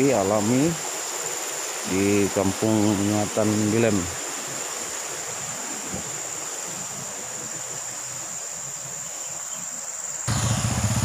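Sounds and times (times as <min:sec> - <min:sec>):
even hiss: 0:00.0 - 0:11.0
high insect drone: 0:00.0 - 0:11.0.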